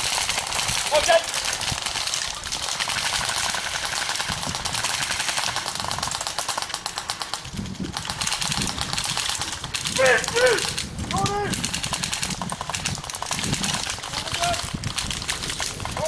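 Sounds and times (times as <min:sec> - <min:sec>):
airsoft guns firing on full auto: 0:00.0 - 0:16.0.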